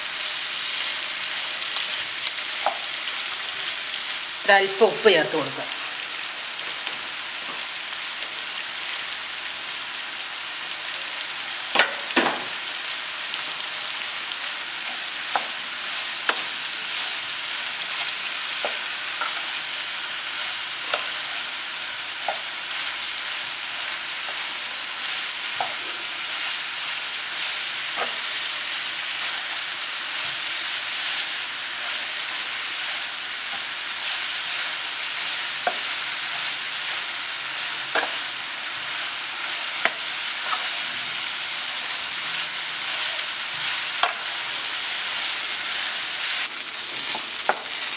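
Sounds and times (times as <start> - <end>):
onions sizzling in oil: 0.0 - 47.9.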